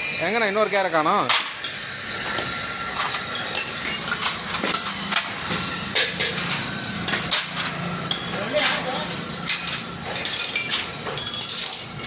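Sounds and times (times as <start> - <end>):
metal parts clinking: 1.2 - 12.0.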